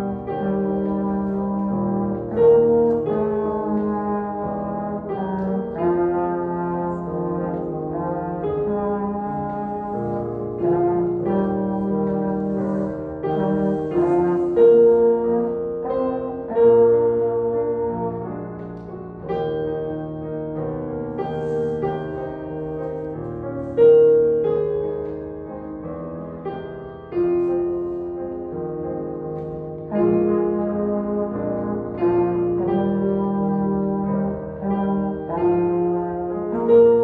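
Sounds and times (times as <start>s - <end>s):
brass instrument long notes: 0.0s - 25.7s, 26.5s - 37.0s
digital piano chords: 0.0s - 37.0s.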